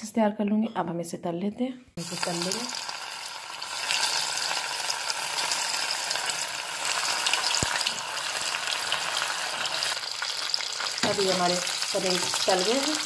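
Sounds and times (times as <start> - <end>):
food deep-frying in oil: 2.0 - 13.0.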